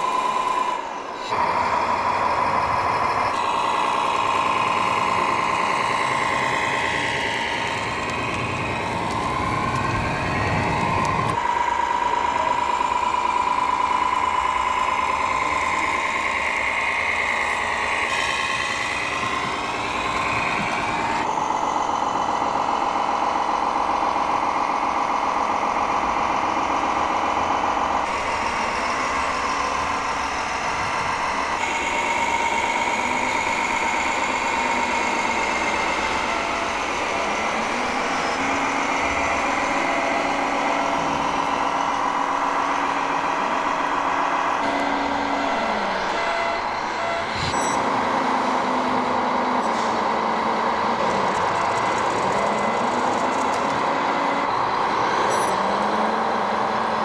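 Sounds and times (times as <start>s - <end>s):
engine-like running sound: 0.0s - 57.0s
model truck motor whine: 0.0s - 57.0s.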